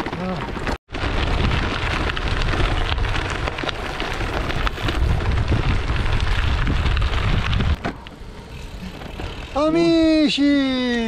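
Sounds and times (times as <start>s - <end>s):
bike tyres crunching on gravel: 0.0s - 11.0s.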